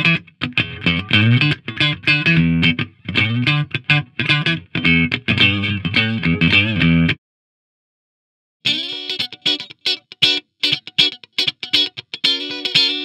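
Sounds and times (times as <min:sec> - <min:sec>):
electric guitar playing: 0:00.0 - 0:07.2, 0:08.6 - 0:13.0.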